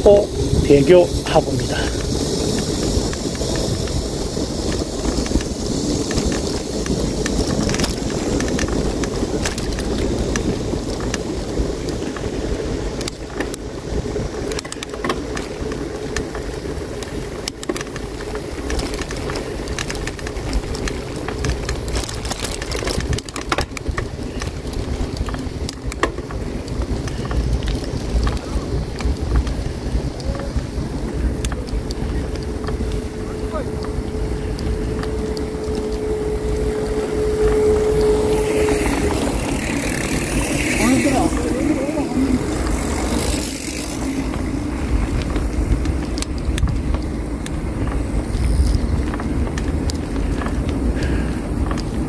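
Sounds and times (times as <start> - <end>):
bicycle tyres and moving air: 0.0 - 52.0
bike clicks and rattles: 0.0 - 52.0.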